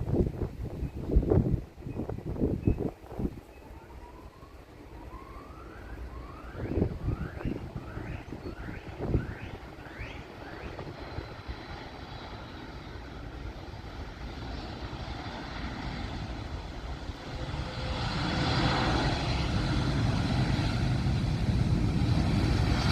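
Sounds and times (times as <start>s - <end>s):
jet engines rumbling: 0.0s - 22.9s.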